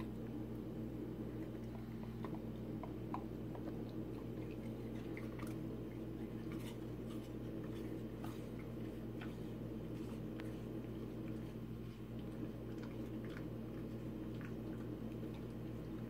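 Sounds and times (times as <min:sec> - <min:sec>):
dog chewing fruit: 0:00.0 - 0:16.0
steady low hum: 0:00.0 - 0:16.0.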